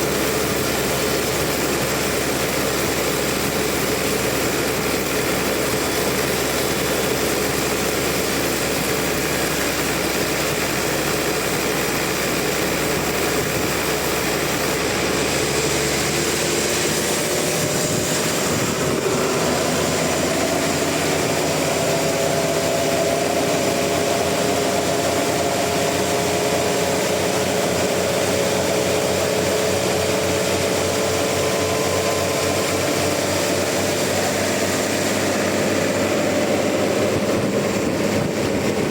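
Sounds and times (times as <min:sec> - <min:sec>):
faint rising whine: 0:00.0 - 0:38.9
sawmill machinery running: 0:00.0 - 0:38.9.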